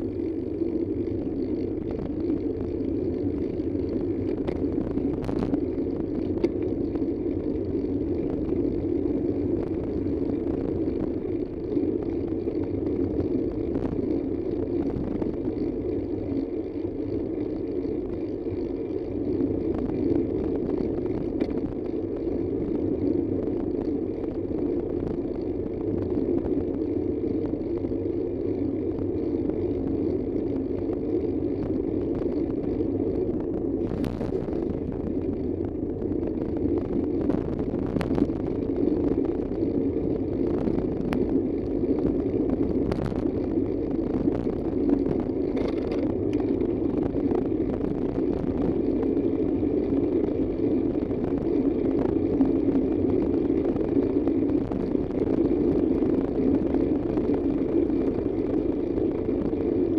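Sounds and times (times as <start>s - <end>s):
vehicle road and engine noise: 0.0s - 59.9s.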